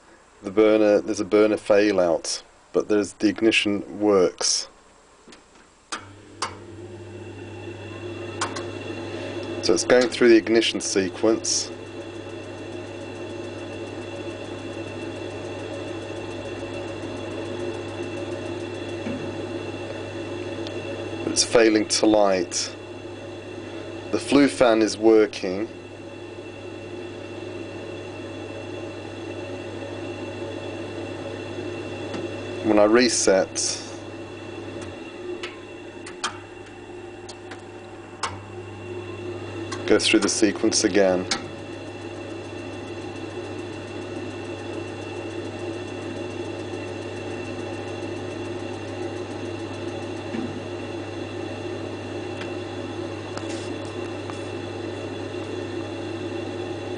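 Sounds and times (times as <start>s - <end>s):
boiler flue fan humming: 0.0s - 56.9s.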